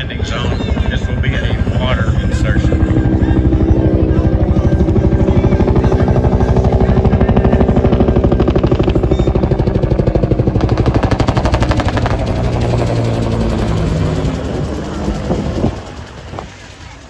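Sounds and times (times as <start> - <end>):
rotor and turbine drone: 0.0 - 17.0
helicopter rotor blade slap: 0.7 - 17.0.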